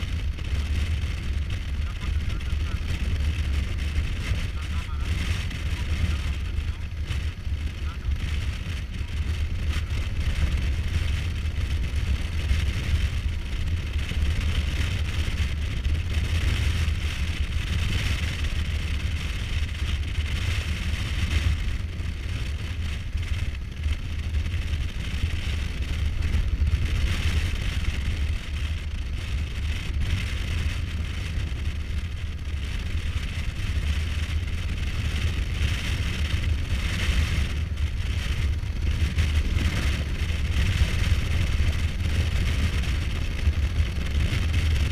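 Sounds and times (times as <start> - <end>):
motorcycle engine cruising: 0.0 - 44.9
wind rushing on microphone: 0.0 - 44.9.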